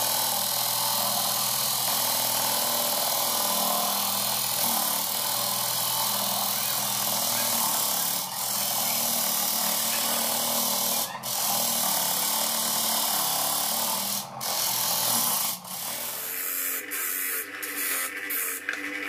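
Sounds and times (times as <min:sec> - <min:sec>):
disc sander grinding wood: 0:00.0 - 0:19.0.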